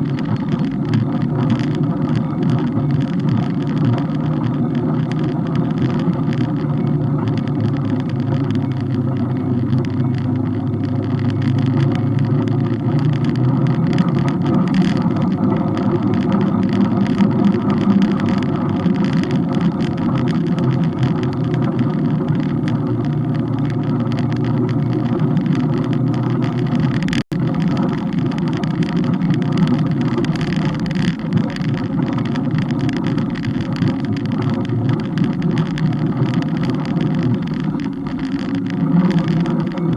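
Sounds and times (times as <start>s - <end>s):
road and vehicle noise: 0.0s - 39.9s.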